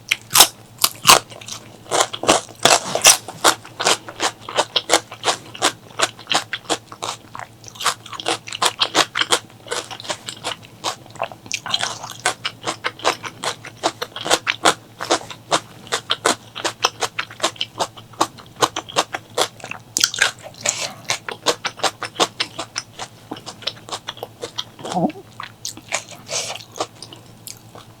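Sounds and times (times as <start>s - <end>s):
chewing and crunching food: 0.0s - 28.0s.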